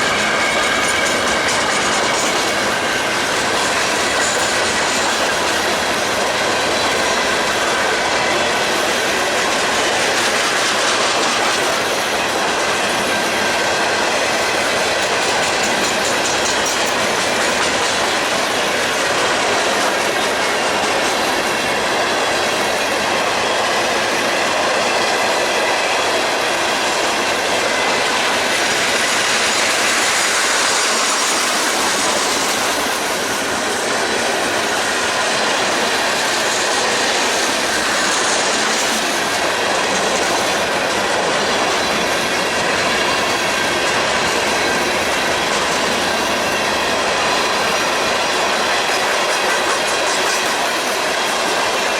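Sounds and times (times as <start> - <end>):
freight train wheels on rail: 0.0 - 51.9.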